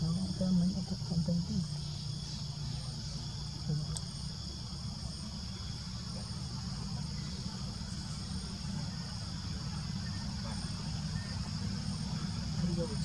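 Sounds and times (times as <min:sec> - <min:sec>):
insects buzzing: 0:00.0 - 0:13.0
low steady rumble: 0:00.0 - 0:13.0.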